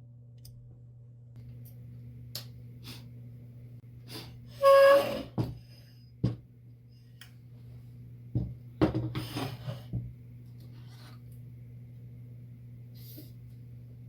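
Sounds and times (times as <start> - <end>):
steady low hum: 0.0 - 4.6, 5.3 - 14.0.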